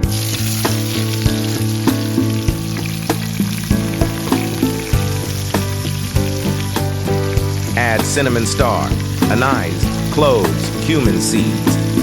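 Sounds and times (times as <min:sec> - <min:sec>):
background music with a beat: 0:00.0 - 0:12.0
onions sizzling in oil: 0:00.0 - 0:12.0.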